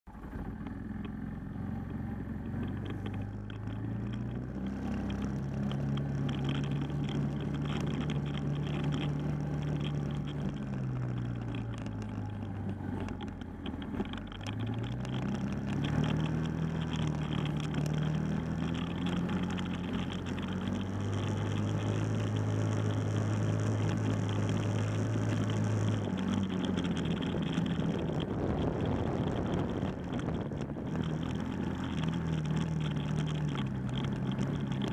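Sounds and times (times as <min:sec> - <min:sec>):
atv engine running: 0:00.1 - 0:34.9.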